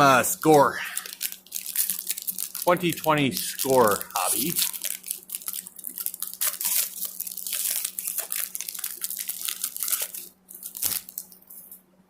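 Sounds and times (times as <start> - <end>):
wrapper tearing and crinkling: 0.0 - 11.8.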